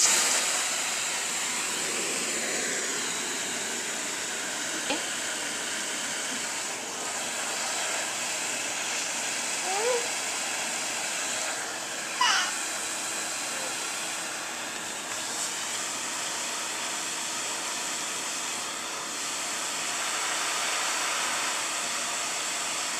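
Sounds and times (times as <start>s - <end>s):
vacuum cleaner rushing hiss: 0.0s - 22.9s.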